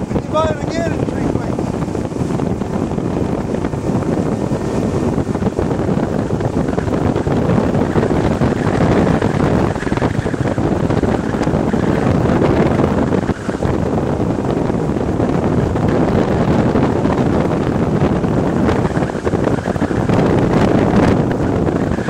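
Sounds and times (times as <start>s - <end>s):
boat hull running over water: 0.0s - 22.0s
wind buffeting microphone: 0.0s - 22.0s.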